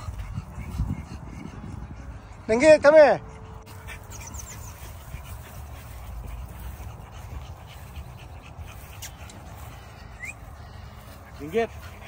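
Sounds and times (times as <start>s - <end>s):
puppy panting and snuffling: 0.0s - 12.0s
steady low rumble: 0.0s - 12.0s.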